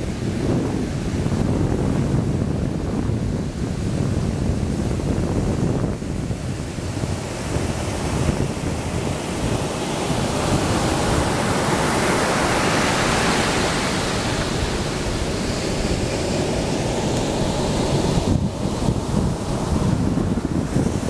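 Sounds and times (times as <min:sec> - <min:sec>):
surf breaking on a beach: 0:00.0 - 0:21.0
wind rumble on microphone: 0:00.0 - 0:21.0.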